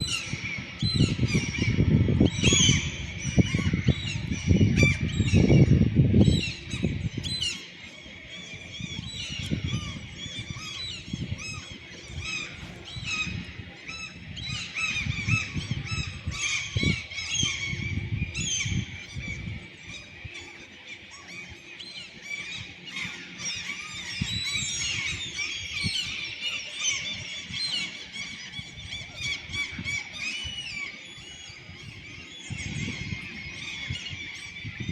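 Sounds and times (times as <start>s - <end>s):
gulls calling: 0.0s - 34.9s.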